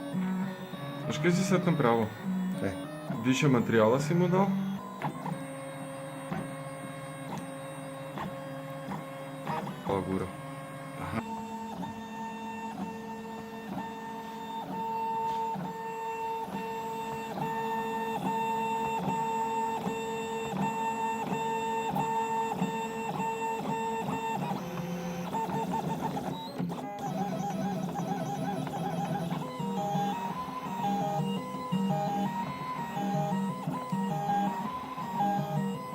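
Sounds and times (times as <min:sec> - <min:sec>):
printer stepper motors whining: 0:00.0 - 0:35.9.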